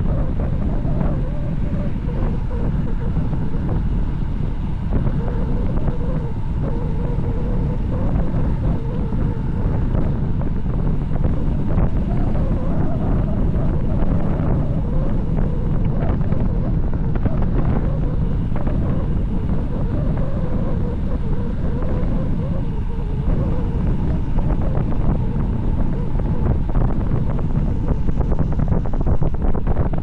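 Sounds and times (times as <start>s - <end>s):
heavy wind rush on microphone: 0.0s - 30.0s.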